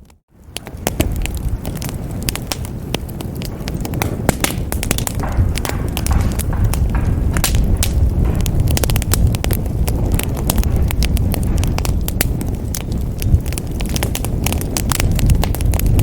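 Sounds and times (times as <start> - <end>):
burning logs crackling and popping: 0.0 - 16.0
wood fire roaring: 0.0 - 16.0.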